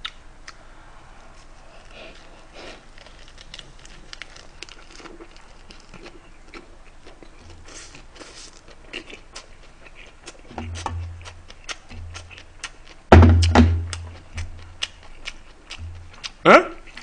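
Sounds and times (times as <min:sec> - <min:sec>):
chewing with mouth clicks: 0:00.0 - 0:00.6, 0:01.7 - 0:13.1, 0:13.9 - 0:17.0.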